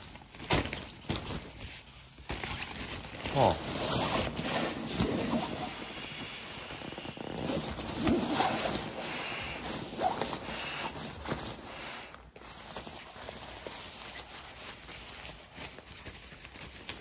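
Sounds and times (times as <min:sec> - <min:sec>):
fabric rustling and crinkling: 0:00.0 - 0:17.0.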